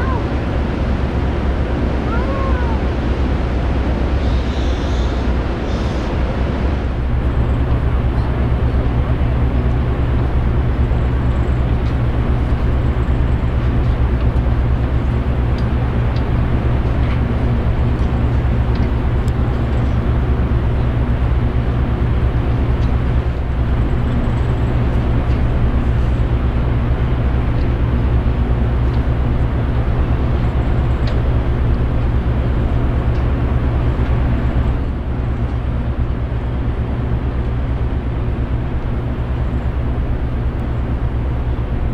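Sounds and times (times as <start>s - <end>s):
constant rushing noise: 0.0s - 41.9s
ship engines droning: 0.0s - 41.9s.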